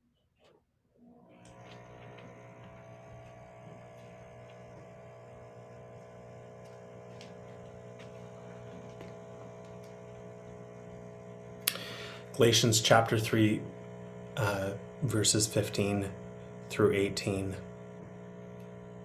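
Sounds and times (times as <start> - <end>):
steady electrical hum: 1.1 - 19.0.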